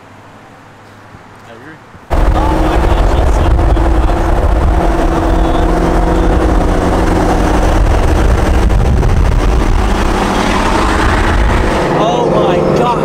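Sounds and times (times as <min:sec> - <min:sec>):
car engine with deep exhaust: 0:02.1 - 0:13.0.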